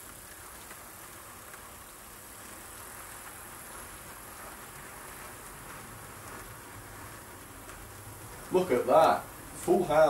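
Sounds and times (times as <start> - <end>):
model train wheels whirring: 0.0 - 10.0.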